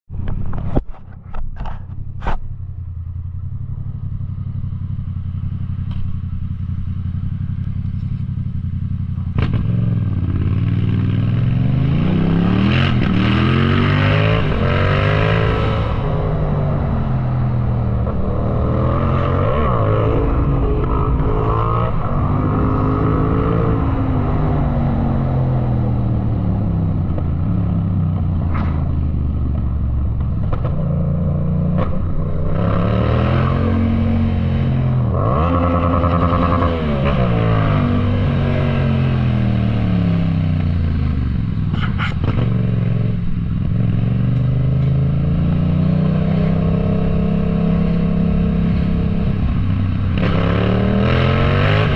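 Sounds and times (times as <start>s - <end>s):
motorcycle engine revving: 0.2s - 51.9s.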